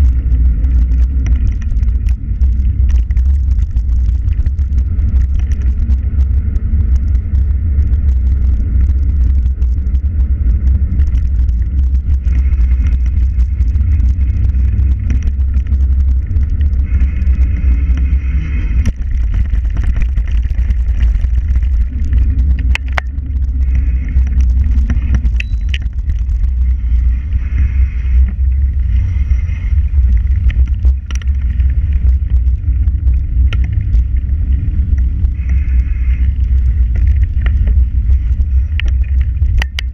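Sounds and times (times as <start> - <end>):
bicycle tyre noise on pavement: 0.0 - 39.9
wind buffeting microphone: 0.0 - 39.9.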